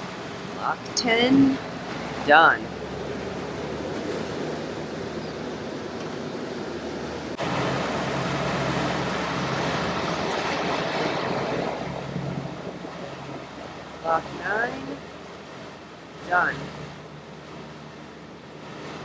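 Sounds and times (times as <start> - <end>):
low engine hum: 0.0 - 19.0
water rushing: 0.0 - 19.0
wind: 0.0 - 19.0.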